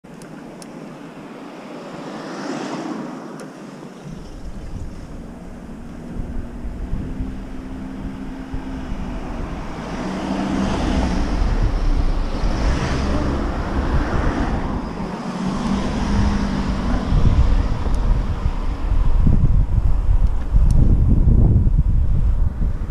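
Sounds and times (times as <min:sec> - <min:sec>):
road noise: 0:00.0 - 0:22.9
passing cars humming: 0:00.2 - 0:22.9
wind rushing over microphone: 0:00.7 - 0:22.9.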